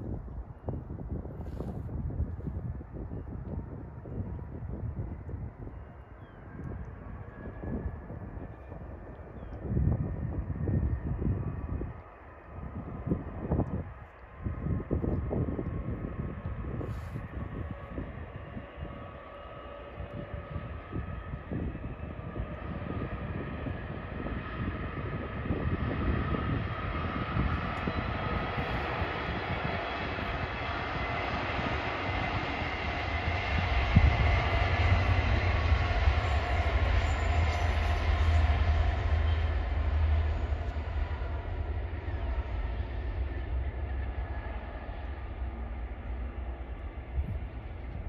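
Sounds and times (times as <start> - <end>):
train passing: 0.0 - 48.0.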